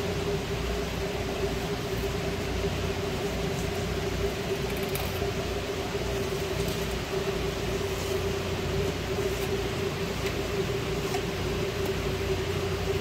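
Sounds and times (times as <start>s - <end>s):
mechanical droning hum: 0.0s - 13.0s.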